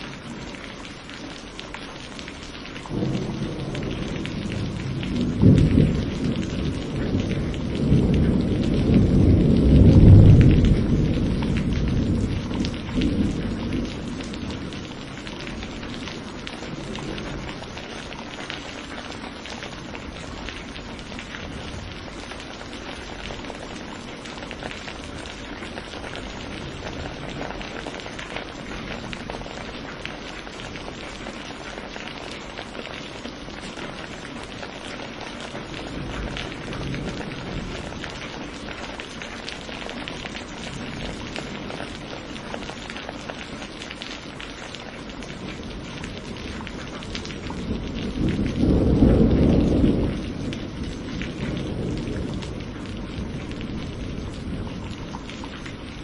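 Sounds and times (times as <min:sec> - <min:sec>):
steady rain: 0:00.0 - 0:56.0
thunder rumbling: 0:02.3 - 0:43.7, 0:44.3 - 0:56.0.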